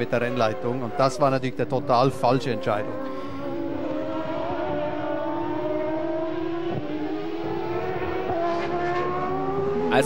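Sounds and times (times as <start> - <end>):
race car engines wailing: 0.0 - 10.0.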